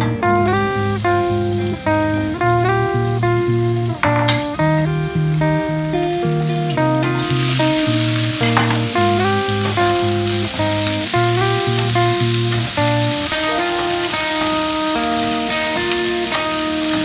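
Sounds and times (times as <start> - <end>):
background guitar music: 0.0 - 17.0
vegetables sizzling in hot oil: 0.0 - 17.0.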